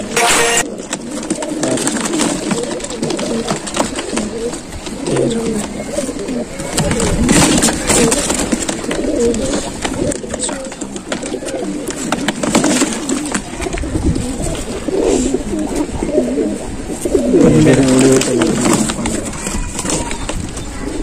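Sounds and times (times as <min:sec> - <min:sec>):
cardboard clicks and rustles: 0:00.0 - 0:14.8, 0:17.6 - 0:20.8
pigeons cooing: 0:00.0 - 0:21.0.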